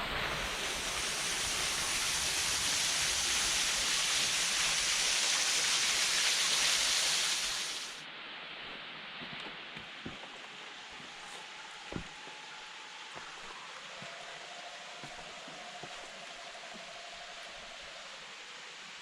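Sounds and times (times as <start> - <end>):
waterfall rushing: 0.0 - 8.0, 10.1 - 19.0.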